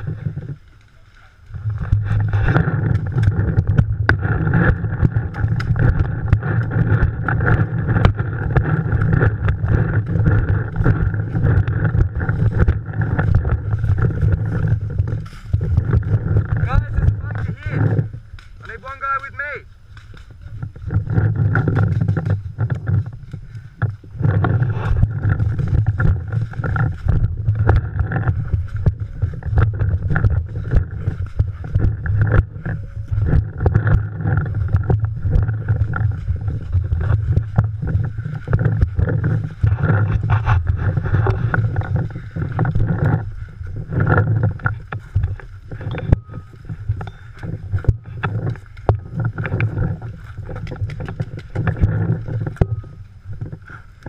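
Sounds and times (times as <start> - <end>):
microphone handling noise: 0.0 - 54.0
wind rumbling on microphone: 0.0 - 54.0.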